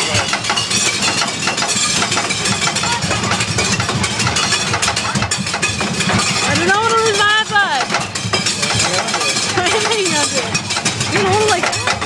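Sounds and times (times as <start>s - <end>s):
roller coaster train clattering: 0.0s - 12.0s.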